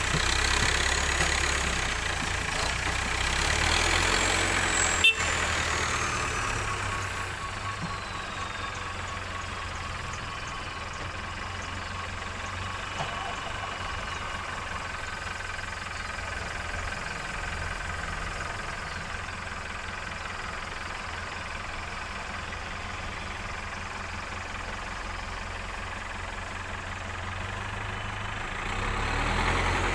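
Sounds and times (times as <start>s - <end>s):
backhoe loader engine running: 0.0s - 29.9s
truck driving off: 0.0s - 29.9s.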